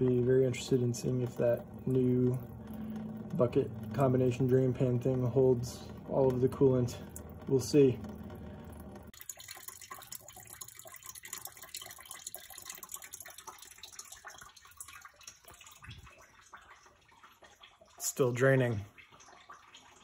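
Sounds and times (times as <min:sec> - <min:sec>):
liquid trickling into plastic pan: 0:00.0 - 0:20.0.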